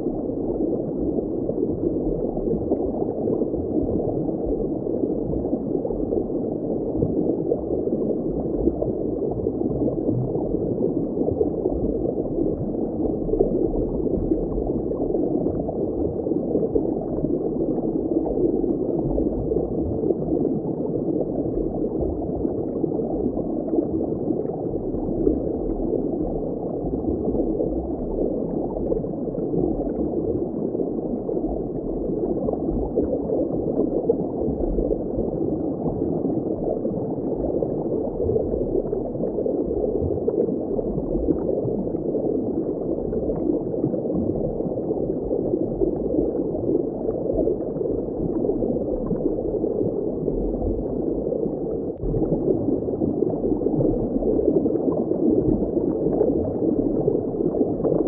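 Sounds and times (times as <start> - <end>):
muffled bubbling water: 0.0 - 58.0.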